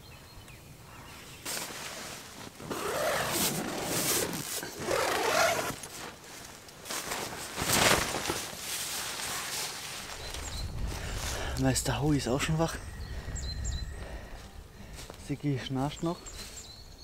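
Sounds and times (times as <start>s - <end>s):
rustling leaves and fabric: 0.8s - 17.0s.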